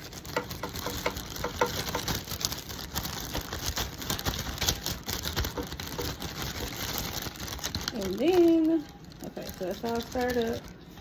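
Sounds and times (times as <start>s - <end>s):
egg stirred in plastic bag: 0.0s - 11.0s.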